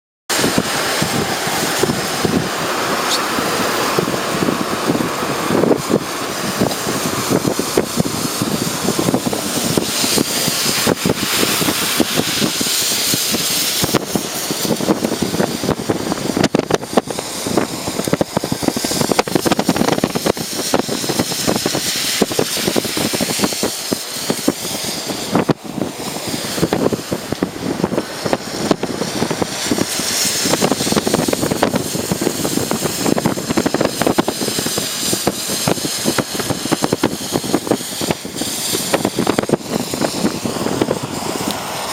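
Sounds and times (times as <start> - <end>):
wind buffeting microphone: 0.3 - 41.9.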